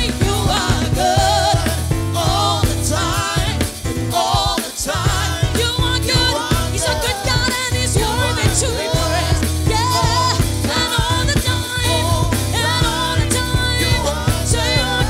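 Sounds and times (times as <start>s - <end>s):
bass guitar: 0.0s - 15.0s
drums keeping a steady beat: 0.0s - 15.0s.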